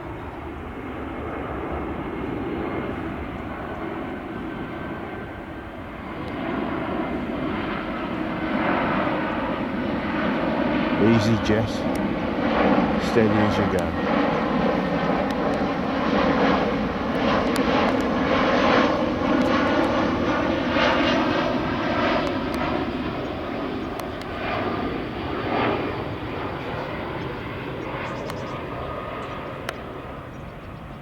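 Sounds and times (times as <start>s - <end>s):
jet airliner passing by: 0.0s - 31.0s.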